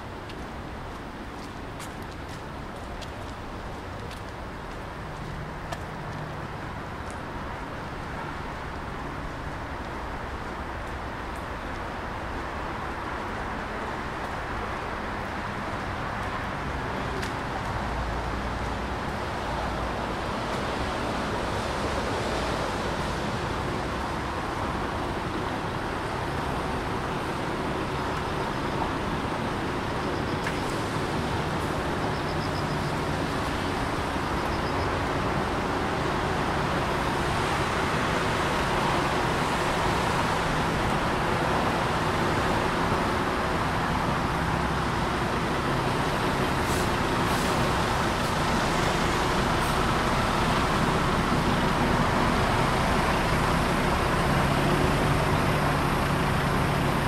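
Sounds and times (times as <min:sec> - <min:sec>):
traffic engines: 0:00.0 - 0:57.0
tyres hissing on wet road: 0:00.0 - 0:57.0.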